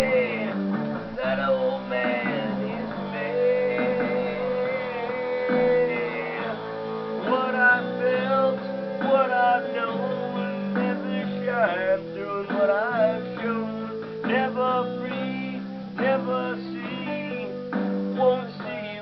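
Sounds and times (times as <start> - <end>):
guitar plucked and strummed: 0.0 - 19.0.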